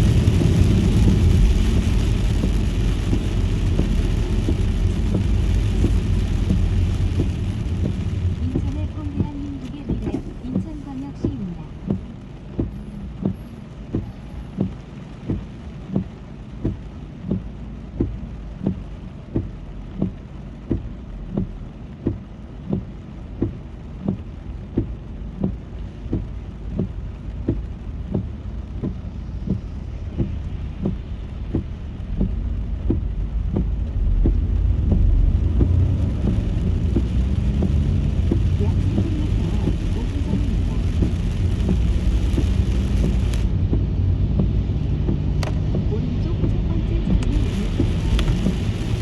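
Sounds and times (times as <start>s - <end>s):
rain: 0.0s - 49.0s
road noise: 0.0s - 49.0s
windshield wipers sweeping wet glass: 0.0s - 49.0s.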